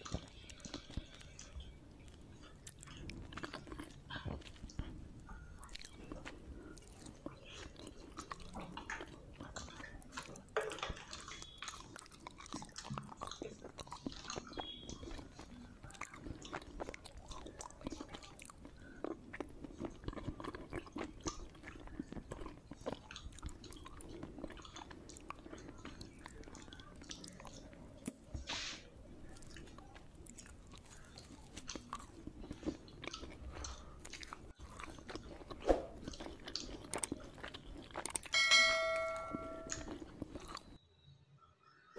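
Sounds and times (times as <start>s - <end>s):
wet mouth sounds: 0.0s - 38.4s
person chewing food: 0.0s - 40.8s.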